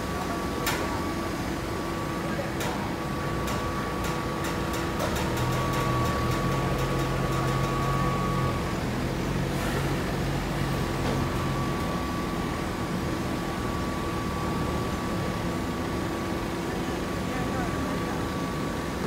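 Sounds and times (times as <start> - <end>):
industrial machinery humming: 0.0 - 19.0.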